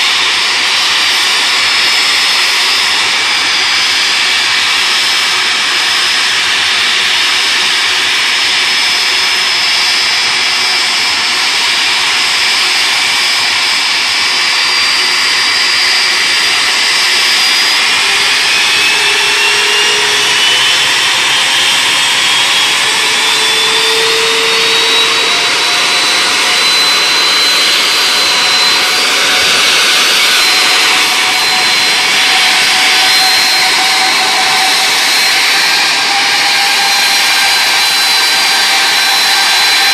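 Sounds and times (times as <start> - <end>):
jet engine running and spooling up: 0.0 - 39.9.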